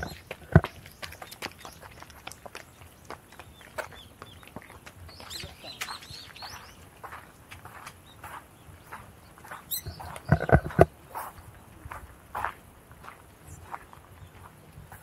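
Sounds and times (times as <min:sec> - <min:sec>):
footsteps on gravel: 0:00.0 - 0:15.0
small birds chirping: 0:00.0 - 0:15.0.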